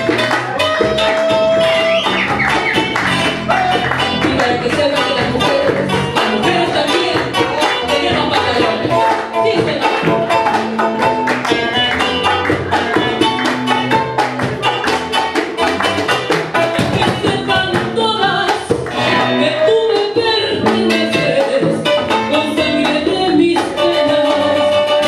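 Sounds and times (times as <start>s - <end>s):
hand percussion beat: 0.0s - 25.0s
latin band guitar: 0.0s - 25.0s.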